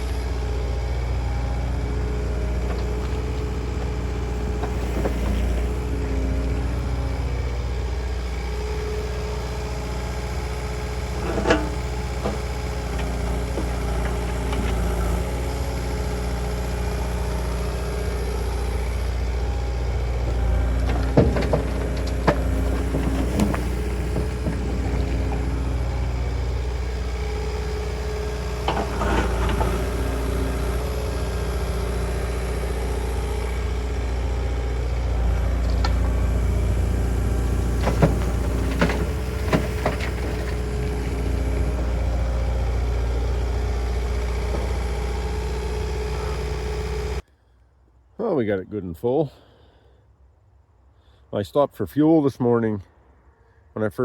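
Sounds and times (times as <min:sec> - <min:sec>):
diesel engine running: 0:00.0 - 0:47.2.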